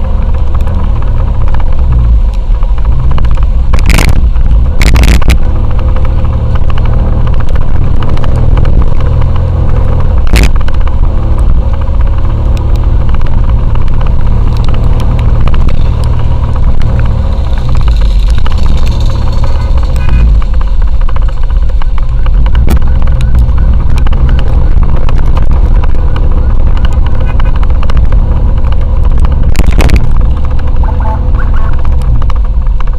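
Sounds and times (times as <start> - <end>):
motorcycle engine rumbling: 0.0 - 32.9
road and wind noise: 0.0 - 32.9.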